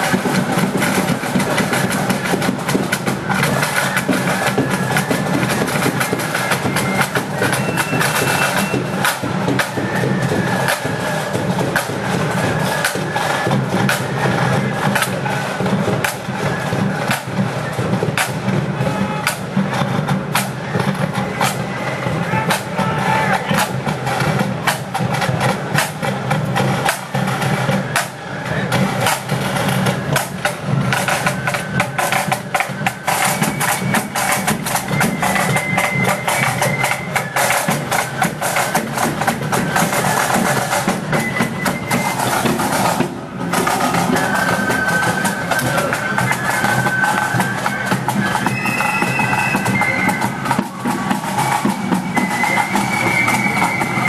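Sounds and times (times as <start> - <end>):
flute melody: 0.0 - 54.0
rapid snare drumming: 0.0 - 54.0.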